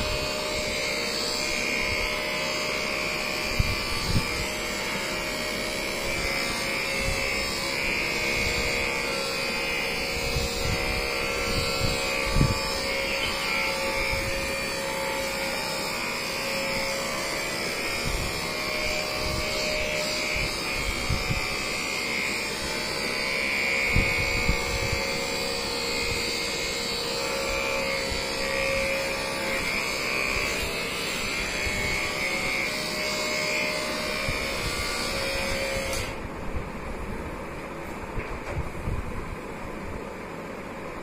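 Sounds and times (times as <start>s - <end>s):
electric massager buzzing: 0.0s - 41.0s.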